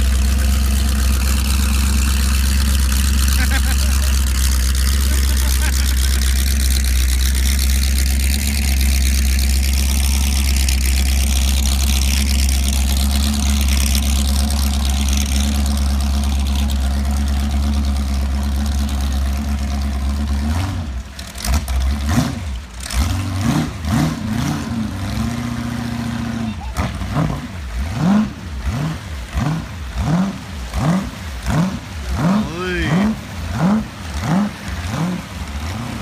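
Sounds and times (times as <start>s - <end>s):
boat engine idling and revving: 0.0s - 36.0s.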